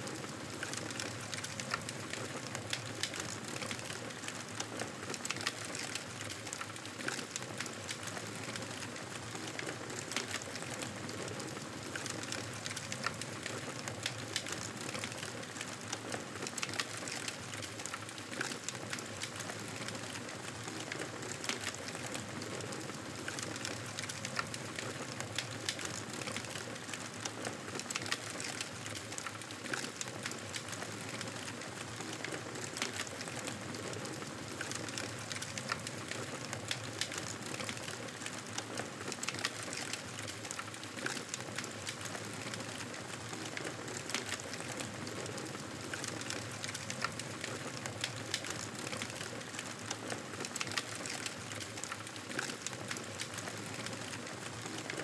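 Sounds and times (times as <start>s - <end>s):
burning wood crackling and popping: 0.2s - 55.0s.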